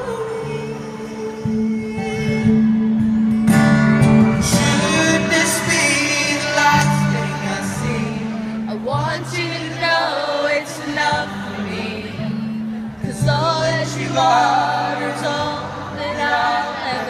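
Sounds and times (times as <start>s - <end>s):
man singing: 0.0s - 2.9s, 4.2s - 17.0s
acoustic guitar: 0.0s - 17.0s.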